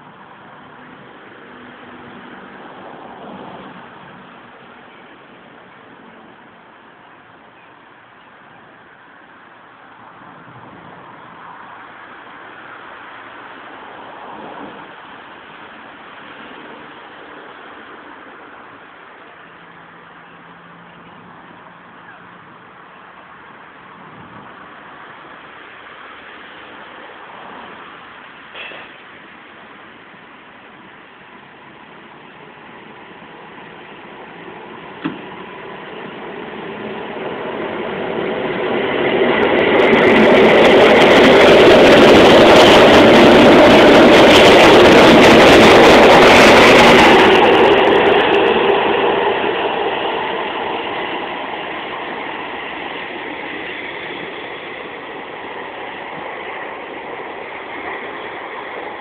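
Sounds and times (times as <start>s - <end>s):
train passing: 0.0s - 59.0s.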